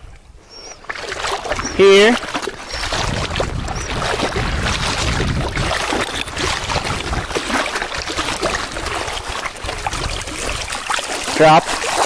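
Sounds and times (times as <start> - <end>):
small waves lapping: 0.0 - 12.0
wind rumbling on microphone: 0.0 - 12.0.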